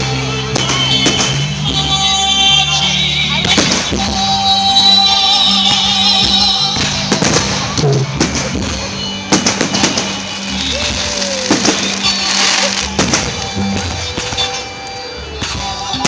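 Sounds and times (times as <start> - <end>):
music with singing: 0.0 - 16.0
firework bangs: 0.1 - 2.0, 3.4 - 4.2, 5.6 - 16.0.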